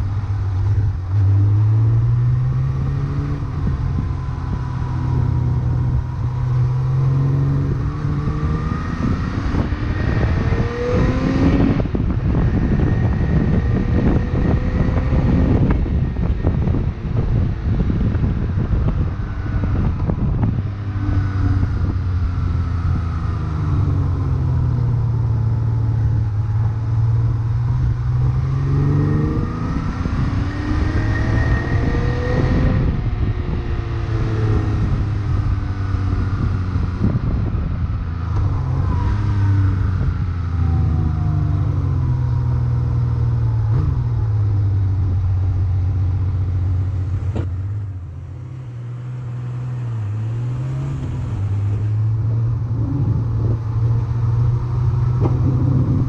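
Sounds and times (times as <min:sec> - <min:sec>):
motorcycle engine revving: 0:00.0 - 0:56.0
wind noise on microphone: 0:00.0 - 0:56.0.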